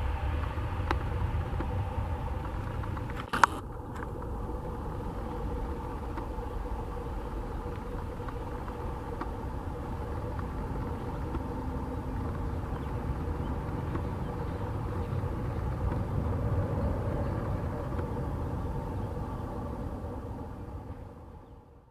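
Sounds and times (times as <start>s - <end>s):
distant jet engine roar: 0.0s - 21.9s
faint jet engine whine: 0.0s - 21.9s.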